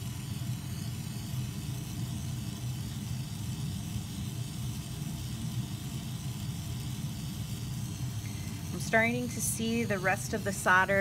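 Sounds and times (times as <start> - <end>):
gas torch flame rushing: 0.0 - 11.0.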